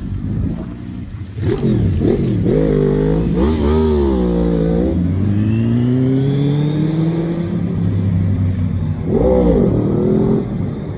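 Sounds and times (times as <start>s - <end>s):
motorcycle engine accelerating: 0.0s - 10.9s.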